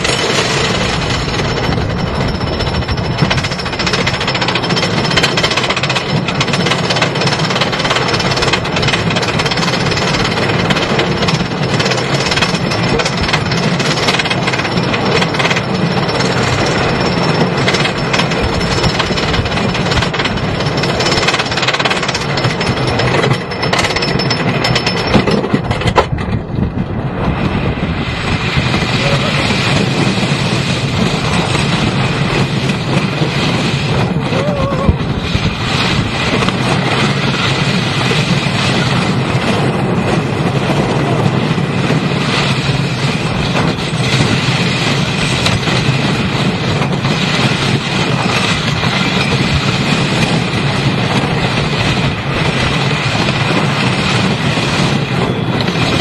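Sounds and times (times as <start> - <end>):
roller coaster clattering on track: 0.0 - 56.0.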